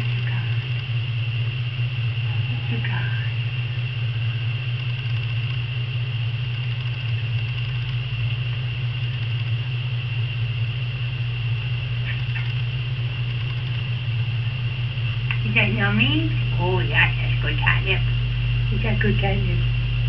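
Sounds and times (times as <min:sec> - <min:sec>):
high steady whine: 0:00.0 - 0:20.0
low hum: 0:00.0 - 0:20.0.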